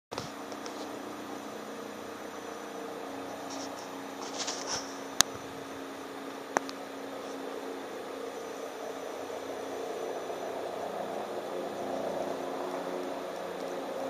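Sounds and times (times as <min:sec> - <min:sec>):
distant helicopter drone: 0:00.2 - 0:14.0.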